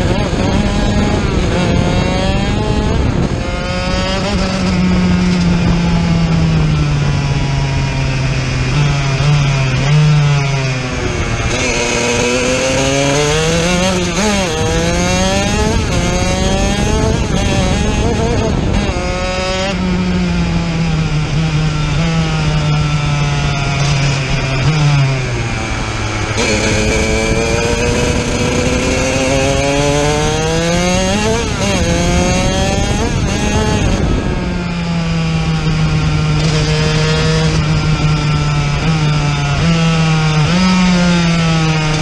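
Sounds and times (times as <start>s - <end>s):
racing kart engine revving: 0.0s - 42.0s.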